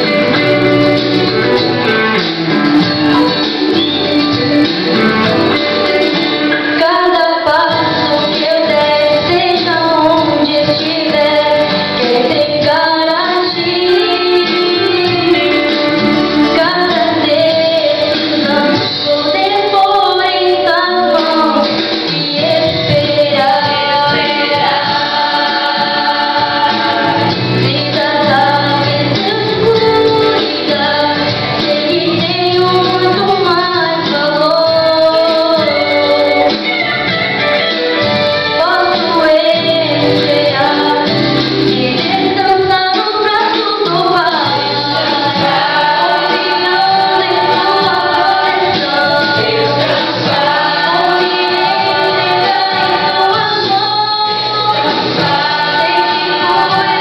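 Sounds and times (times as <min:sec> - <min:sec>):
musical accompaniment: 0:00.0 - 0:57.0
vocal group singing: 0:00.0 - 0:57.0
woman singing into microphone: 0:00.0 - 0:57.0.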